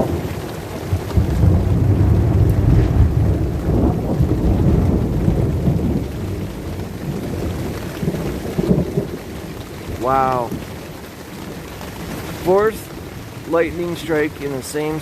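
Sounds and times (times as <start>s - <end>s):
rain hissing: 0.0s - 15.0s
thunder rumbling: 0.0s - 15.0s.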